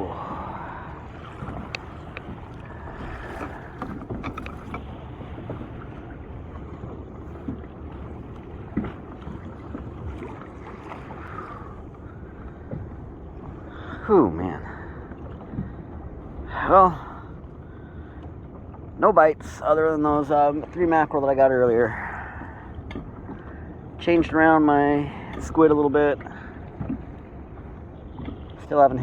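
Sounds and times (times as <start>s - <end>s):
water washing against kayak hull: 0.0s - 29.0s.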